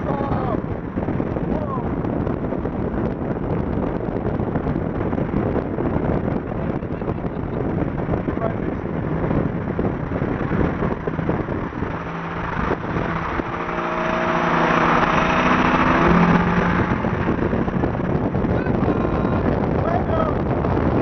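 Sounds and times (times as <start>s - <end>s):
car engine running: 0.0s - 21.0s
road and wind noise: 0.0s - 21.0s.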